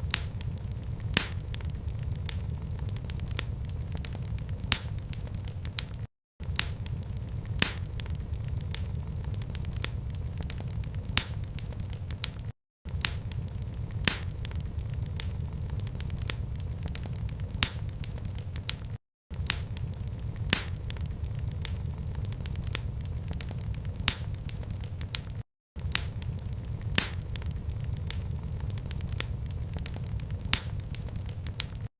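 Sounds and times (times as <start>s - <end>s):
fire crackling and popping: 0.0s - 31.9s
low rumble of flame: 0.0s - 31.9s.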